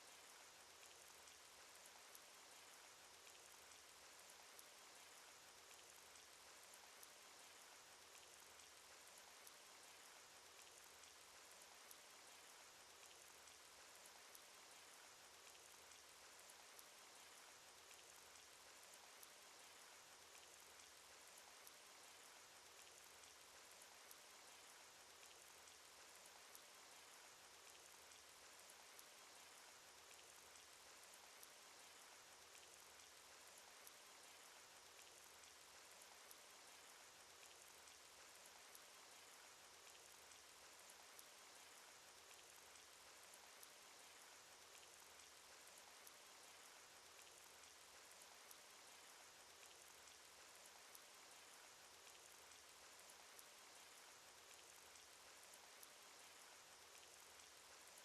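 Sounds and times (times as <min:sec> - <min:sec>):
rain hissing: 0:09.6 - 0:58.0.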